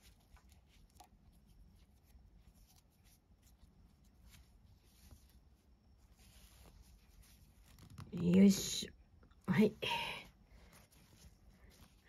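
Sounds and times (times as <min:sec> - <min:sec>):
paracord rustling and ticking: 0:00.0 - 0:12.0.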